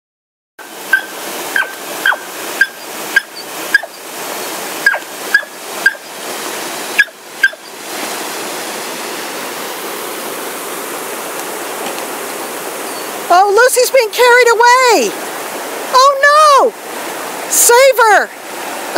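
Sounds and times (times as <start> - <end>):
rushing waterfall and stream: 0.6 - 18.9.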